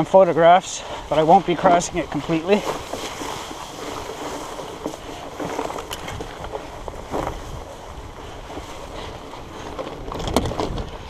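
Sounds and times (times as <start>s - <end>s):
tyres and grass brushing bike: 0.0s - 11.0s
wind noise on microphone: 1.9s - 11.0s.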